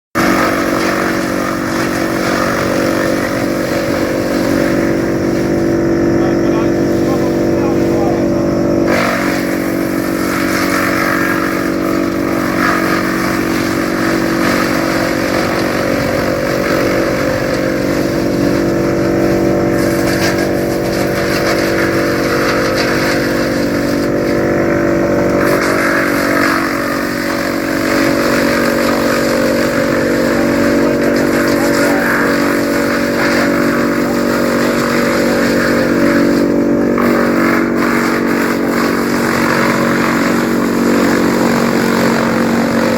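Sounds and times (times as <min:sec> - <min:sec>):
branches crunching in chipper: 0:00.2 - 0:42.9
woodchipper engine humming: 0:00.2 - 0:42.9.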